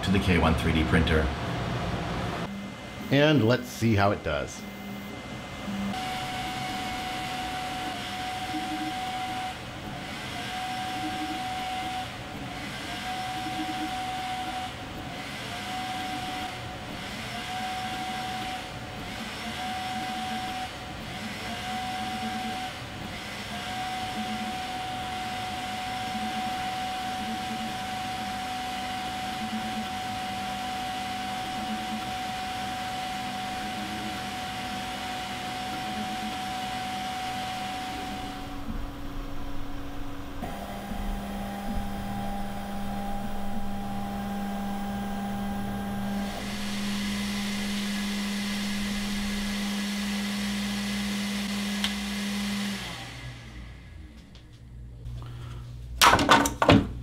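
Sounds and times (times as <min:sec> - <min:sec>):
printer fans and motors whirring: 0:00.0 - 0:55.2
steady whine: 0:00.0 - 0:56.1.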